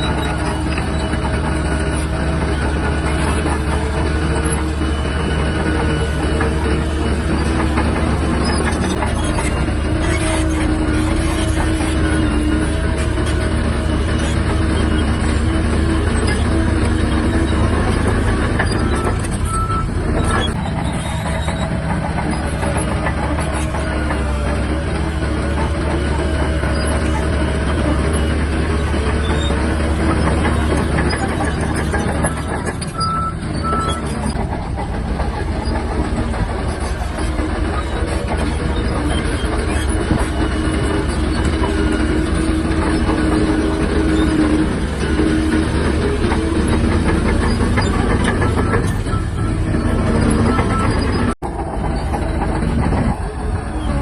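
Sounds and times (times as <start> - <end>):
bulldozer diesel engine running: 0.0 - 54.0
steel tracks clattering: 0.0 - 54.0.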